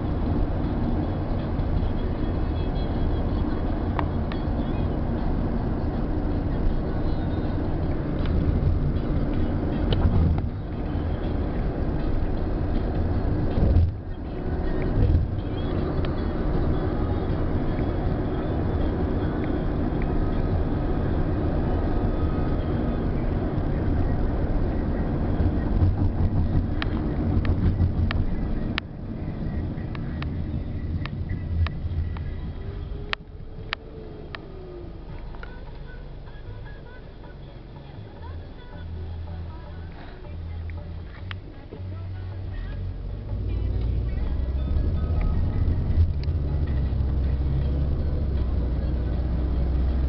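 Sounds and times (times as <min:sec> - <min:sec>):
car road and engine noise: 0:00.0 - 0:50.0.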